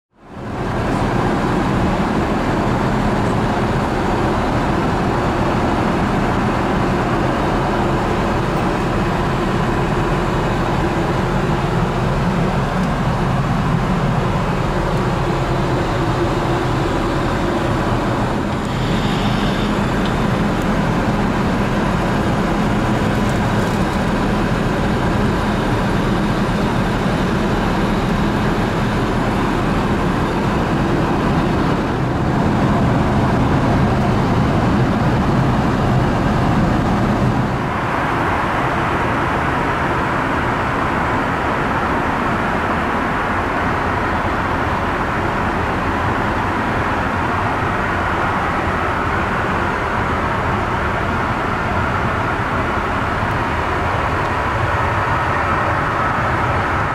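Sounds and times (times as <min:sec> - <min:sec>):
airflow hiss in aircraft cabin: 0:00.3 - 0:56.9.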